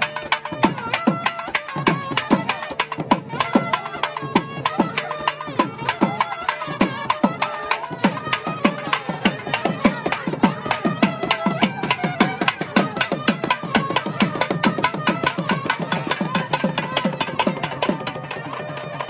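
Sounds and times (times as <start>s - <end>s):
wavering melody: 0.0s - 19.0s.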